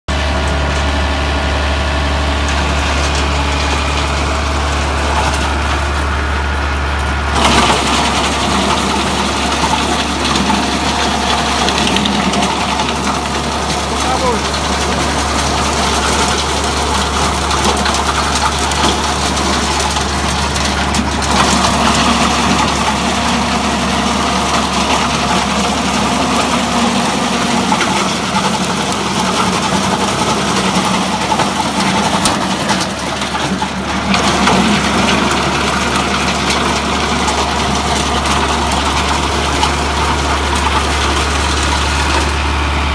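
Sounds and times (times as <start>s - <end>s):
tractor engine: 0.0s - 42.9s
chipper shredding branches: 0.1s - 42.9s.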